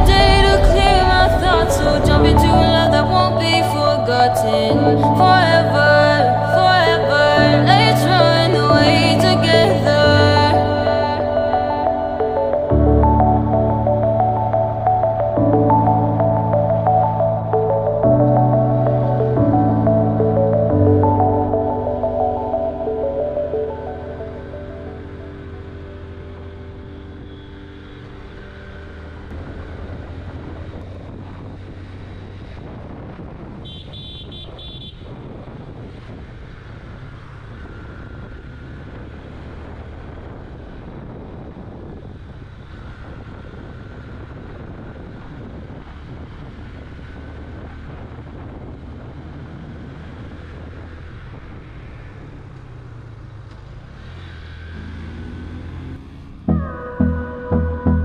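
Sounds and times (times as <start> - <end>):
motorcycle engine droning: 0.0 - 58.0
road and wind noise: 0.0 - 58.0.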